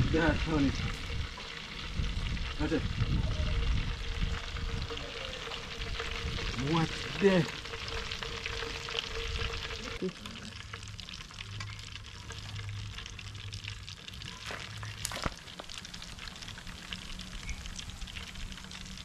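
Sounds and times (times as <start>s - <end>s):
hot oil crackling and sizzling: 0.0s - 19.0s.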